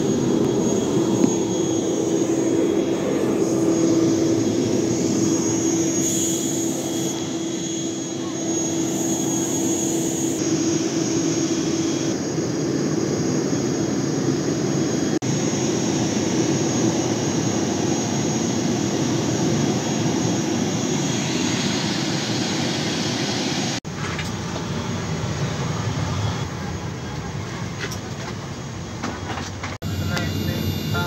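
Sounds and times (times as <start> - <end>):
turboprop engines whining: 0.0 - 27.7, 28.3 - 31.0.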